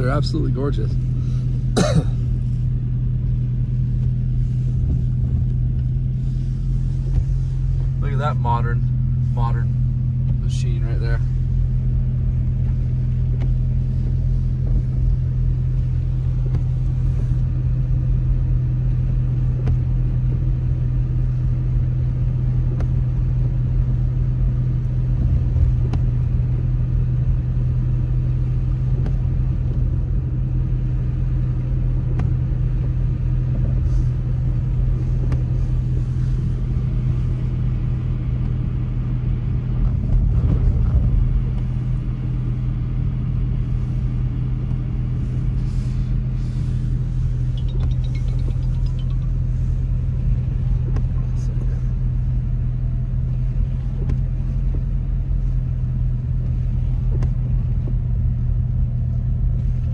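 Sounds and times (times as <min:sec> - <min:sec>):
car engine and road drone: 0:00.0 - 0:59.9.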